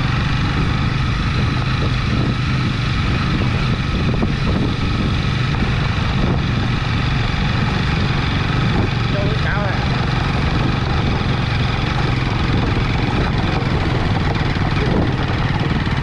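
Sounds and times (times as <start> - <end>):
motorbike engine running: 0.0 - 16.0
wind on microphone: 0.0 - 16.0.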